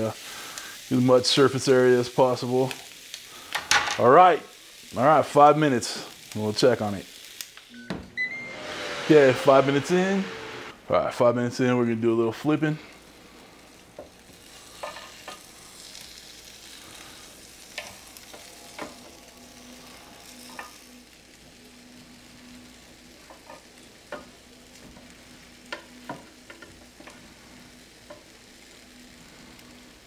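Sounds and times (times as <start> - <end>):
chicken sizzling on grill: 0.0 - 30.0.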